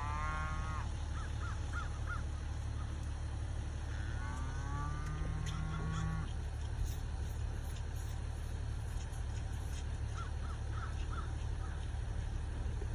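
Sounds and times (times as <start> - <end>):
vehicle idling hum: 0.0 - 12.9.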